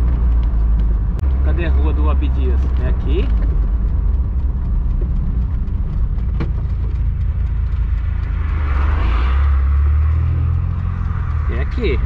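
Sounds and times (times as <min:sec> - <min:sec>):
road noise: 0:00.0 - 0:12.0
van engine droning: 0:00.0 - 0:12.0.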